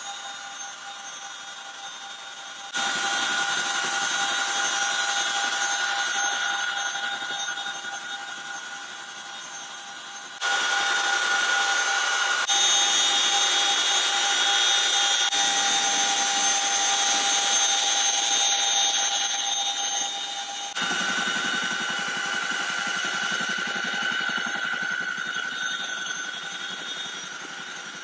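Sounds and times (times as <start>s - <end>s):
helicopter high whine: 0.0s - 28.0s.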